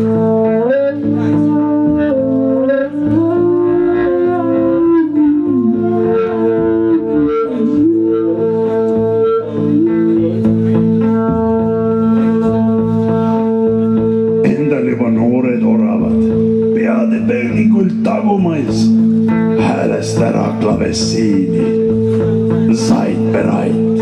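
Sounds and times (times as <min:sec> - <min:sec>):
electric guitar bending notes: 0:00.0 - 0:24.0.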